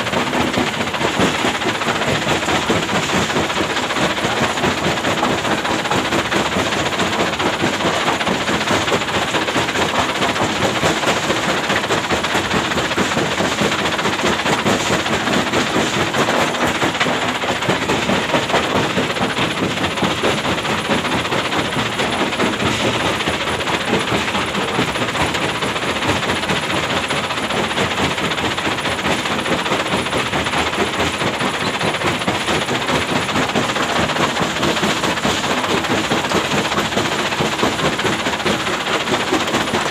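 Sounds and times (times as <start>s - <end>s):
excavator running: 0.0s - 39.9s.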